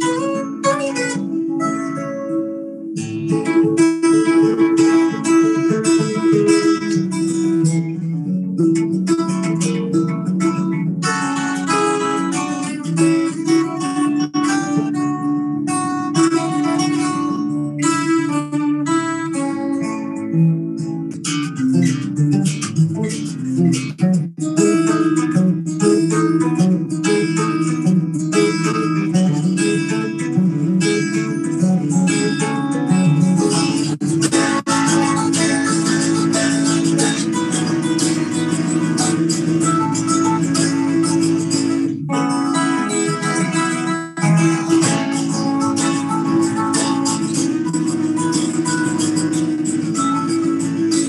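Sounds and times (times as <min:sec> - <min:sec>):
guitar playing: 0:00.0 - 0:51.0.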